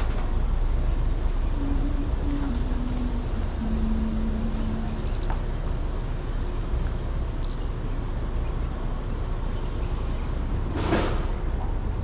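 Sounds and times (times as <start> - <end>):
car driving rumble and road noise: 0.0 - 12.0.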